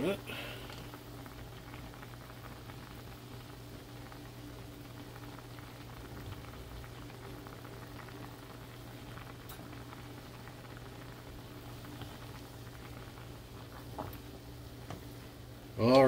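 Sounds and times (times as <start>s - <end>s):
water boiling and bubbling: 0.0s - 16.0s.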